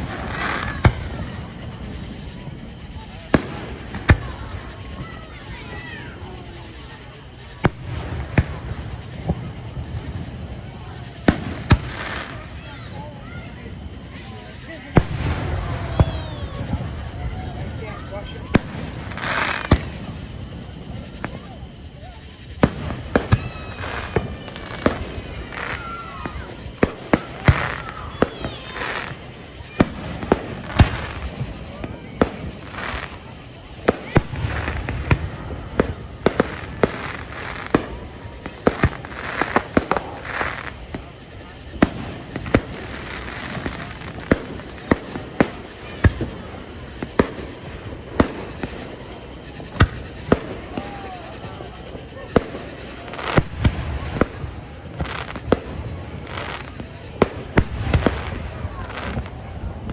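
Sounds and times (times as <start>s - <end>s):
fireworks bangs: 0.0s - 59.9s
hissing crackle: 0.0s - 59.9s.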